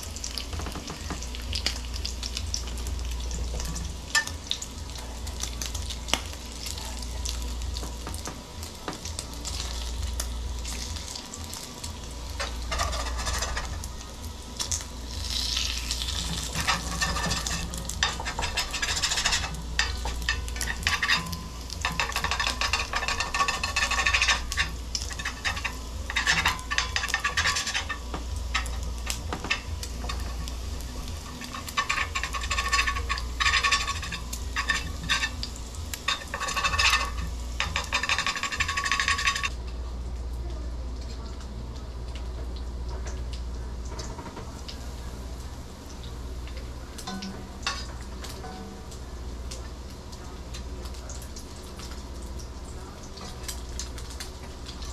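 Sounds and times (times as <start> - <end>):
bacon sizzling and popping: 0.0 - 54.9.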